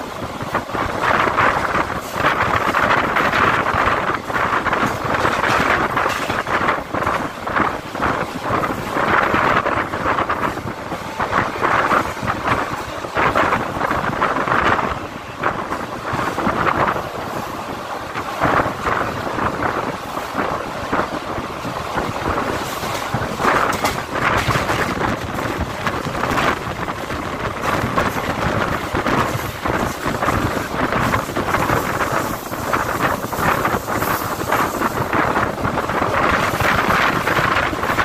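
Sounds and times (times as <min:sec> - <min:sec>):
train wheel and rail noise: 0:00.0 - 0:38.0
wind buffeting microphone: 0:00.0 - 0:38.0.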